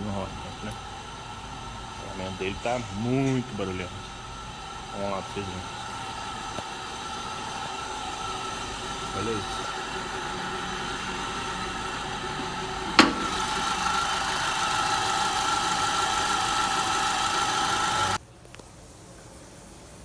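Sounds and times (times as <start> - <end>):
car engine idling: 0.0 - 18.2
pulley bearing droning and whining: 0.0 - 18.2.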